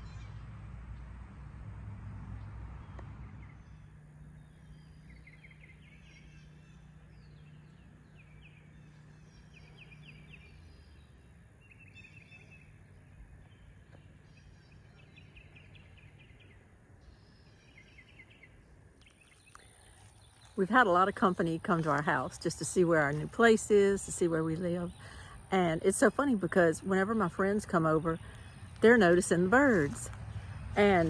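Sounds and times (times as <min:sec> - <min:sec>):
songbirds chirping: 0:02.3 - 0:31.0.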